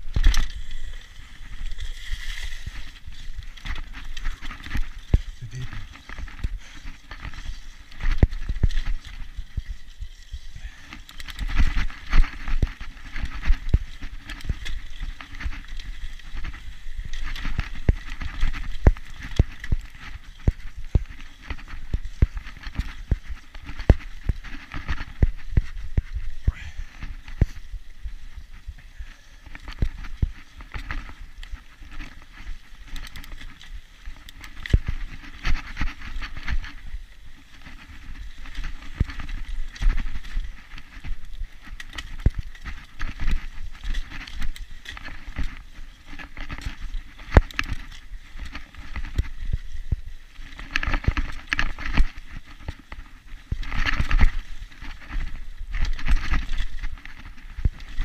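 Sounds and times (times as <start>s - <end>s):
bike rattling over bumps: 0.0s - 58.0s
mountain bike rolling on dirt: 0.0s - 58.0s.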